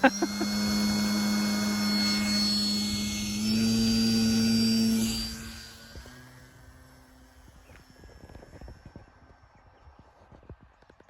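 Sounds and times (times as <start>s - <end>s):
model plane motor buzzing drone: 0.0s - 11.0s.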